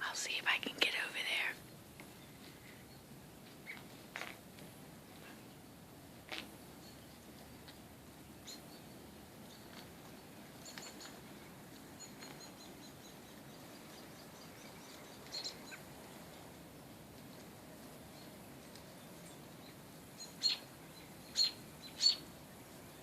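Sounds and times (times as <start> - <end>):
faint steady hiss: 0.0 - 23.0
wild birds chirping: 0.0 - 23.0.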